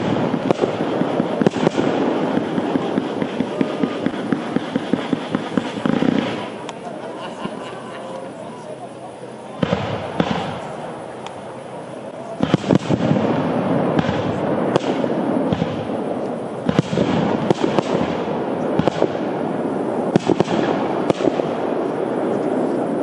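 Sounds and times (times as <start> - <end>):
firework shells bursting: 0.0 - 8.9, 9.5 - 23.0
fireworks crackling: 0.0 - 23.0.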